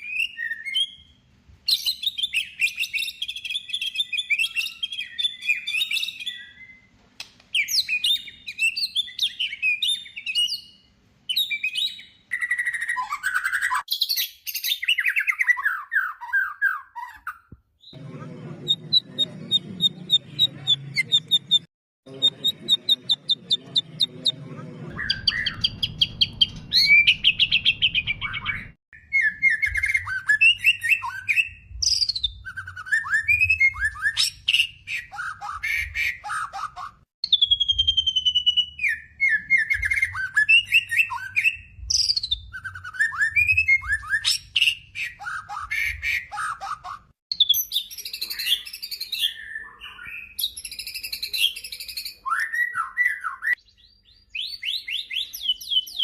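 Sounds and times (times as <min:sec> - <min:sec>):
songbird singing whistles and trills: 0:00.0 - 0:18.0, 0:25.0 - 0:56.0.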